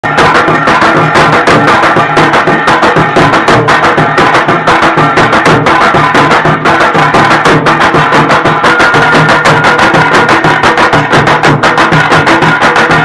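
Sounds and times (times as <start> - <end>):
loud music with fast drum beat: 0.0 - 13.0.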